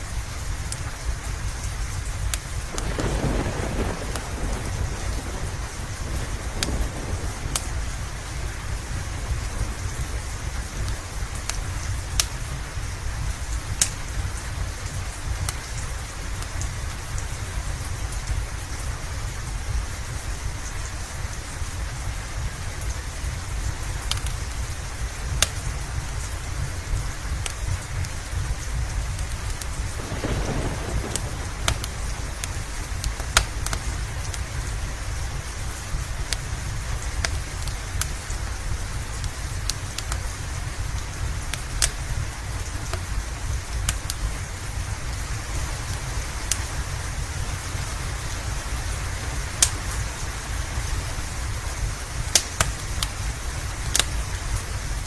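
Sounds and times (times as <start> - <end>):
low rumble of thunder: 0.0 - 55.0
steady rain: 0.0 - 55.0
wood fire crackling: 0.0 - 55.0.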